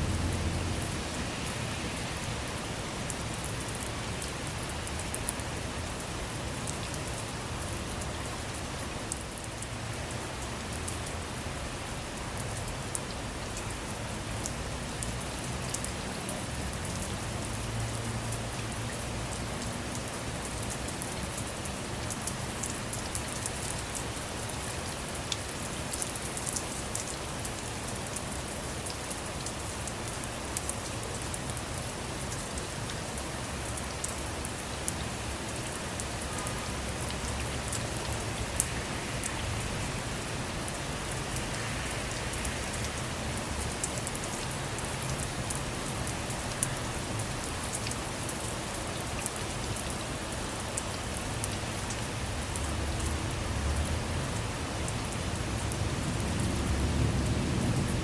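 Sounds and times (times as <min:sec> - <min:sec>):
rain on a car: 0:00.0 - 0:58.0.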